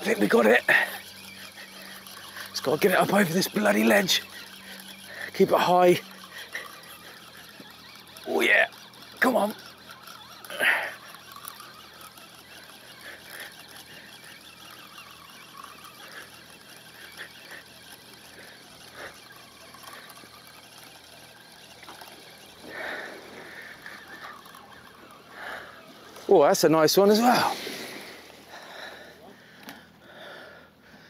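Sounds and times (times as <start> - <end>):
fishing reel winding: 0.0 - 30.6
steady outdoor hiss: 0.0 - 31.0.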